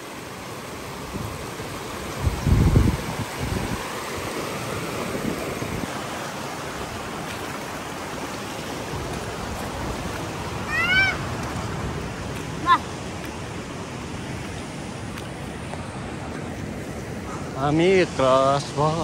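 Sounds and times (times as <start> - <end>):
river water rushing over stones: 0.0 - 19.0.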